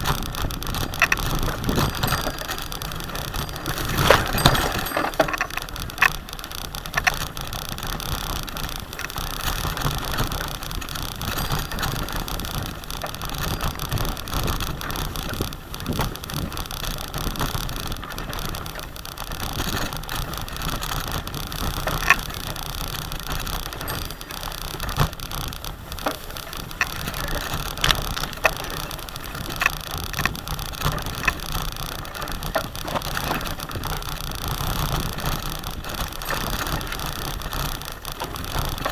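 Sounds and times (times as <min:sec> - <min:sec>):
bike clicks and rattles: 0:00.0 - 0:38.9
dry grass rustling: 0:00.0 - 0:38.9.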